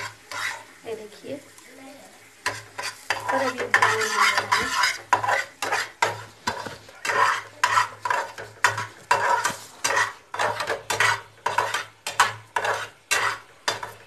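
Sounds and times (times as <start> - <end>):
metal spatula scraping a pan: 0.0 - 0.9, 2.3 - 14.0.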